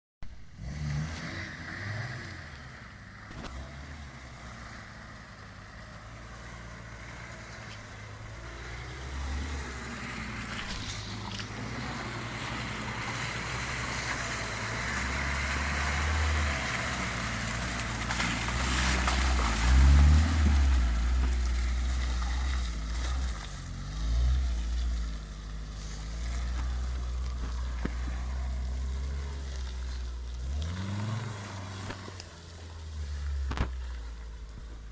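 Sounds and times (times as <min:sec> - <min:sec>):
car engine revving: 0:00.4 - 0:34.9.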